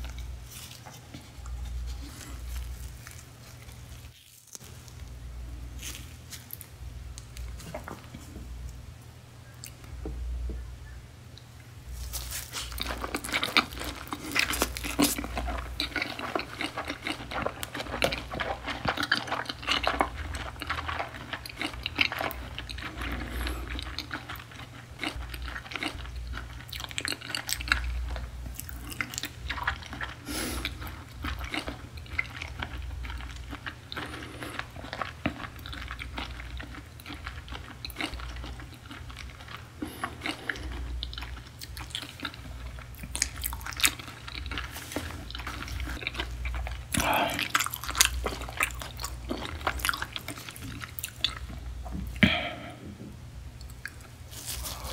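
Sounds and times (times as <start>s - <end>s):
person chewing: 0.0s - 8.8s, 11.4s - 52.8s, 53.6s - 54.9s.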